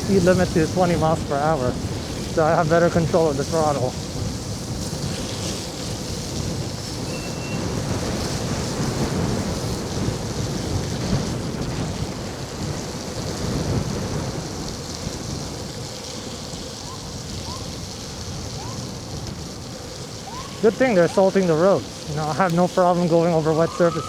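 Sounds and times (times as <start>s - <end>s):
tyres hissing on wet pavement: 0.0s - 24.0s
wind rumbling on microphone: 0.0s - 24.0s.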